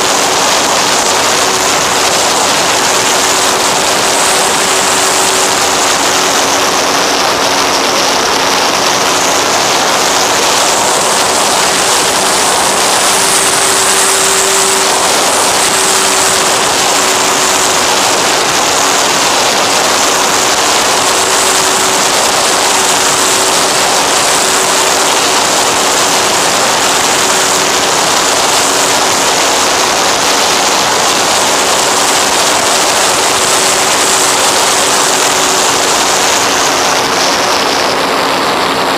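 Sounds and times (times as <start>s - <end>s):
motor and propeller hum: 0.0s - 38.9s
wind rush over microphone: 0.0s - 38.9s.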